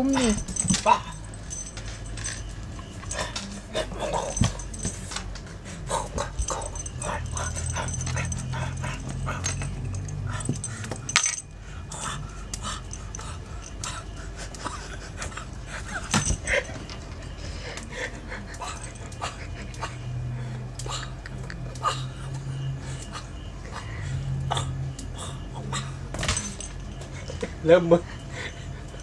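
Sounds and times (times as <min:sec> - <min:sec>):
low steady drone: 0:00.0 - 0:29.0.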